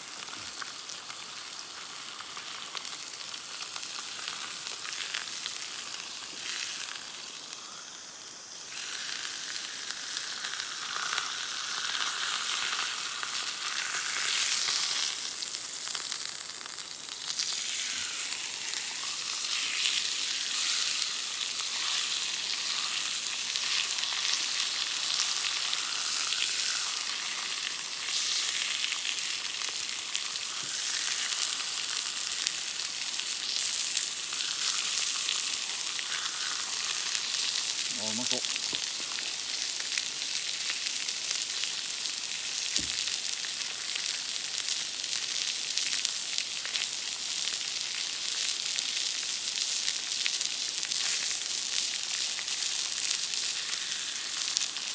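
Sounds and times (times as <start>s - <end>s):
steak sizzling: 0.0s - 54.9s.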